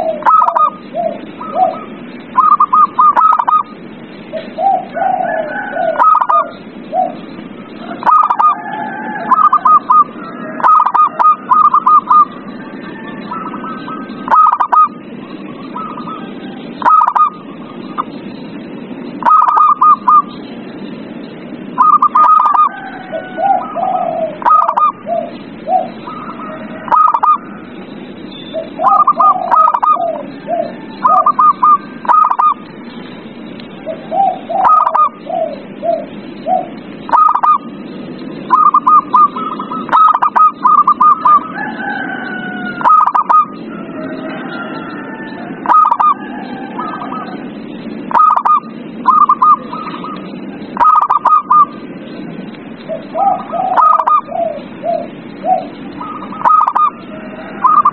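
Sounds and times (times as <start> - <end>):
doves cooing: 0.0 - 57.9
drawn-out falling bird call: 0.0 - 57.9.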